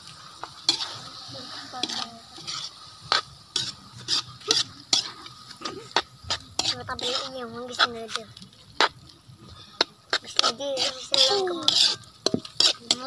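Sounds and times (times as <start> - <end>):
faint sizzle: 0.0 - 13.0
metal spoon scraping a wok: 0.3 - 13.0.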